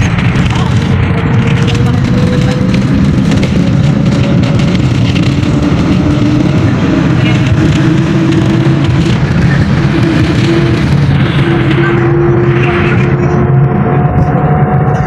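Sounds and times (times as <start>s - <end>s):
engine and road noise drone: 0.0s - 15.0s
faint engine whine: 0.0s - 15.0s.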